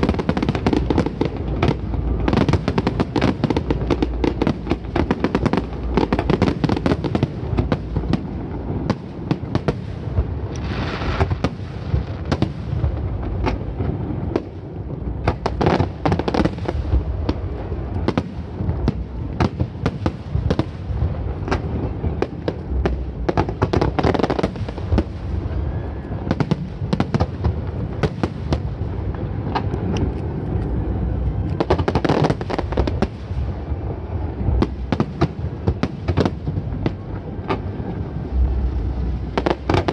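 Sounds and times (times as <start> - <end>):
fireworks booming: 0.0 - 39.9
fireworks cracking and crackling: 0.0 - 39.9.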